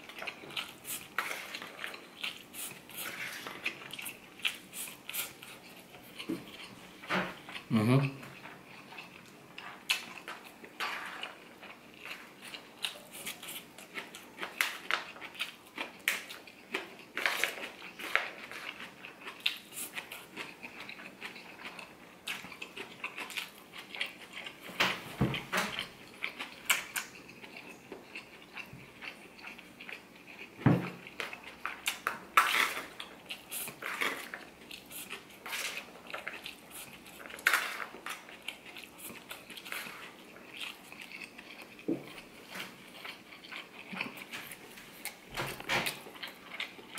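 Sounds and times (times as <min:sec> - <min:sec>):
chewing: 0:00.0 - 0:46.9.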